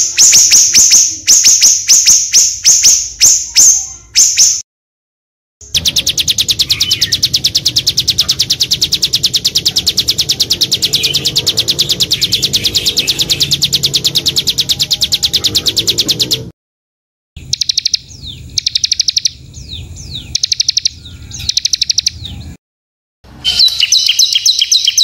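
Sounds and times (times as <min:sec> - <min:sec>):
songbird trilling: 0:00.0 - 0:04.6, 0:05.6 - 0:16.5, 0:17.4 - 0:22.6, 0:23.4 - 0:25.0.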